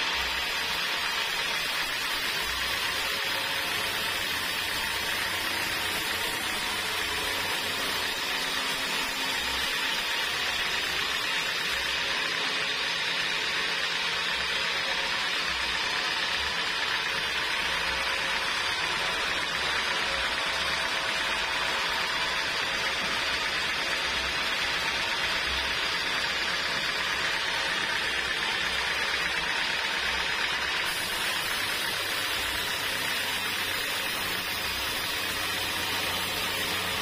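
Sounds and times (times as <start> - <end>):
band saw cutting log: 0.0 - 37.0.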